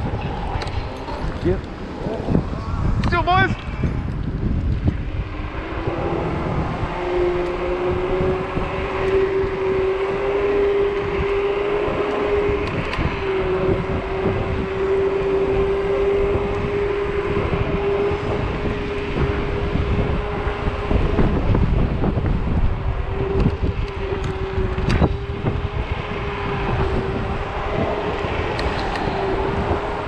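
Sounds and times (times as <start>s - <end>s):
electric scooter motor whining: 0.0s - 30.0s
road rumble: 0.0s - 30.0s
wind noise on microphone: 0.0s - 30.0s.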